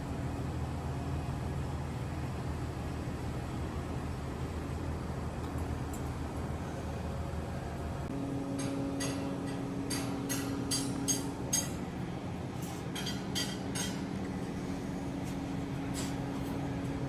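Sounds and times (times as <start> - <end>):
industrial hum: 0.0 - 17.0.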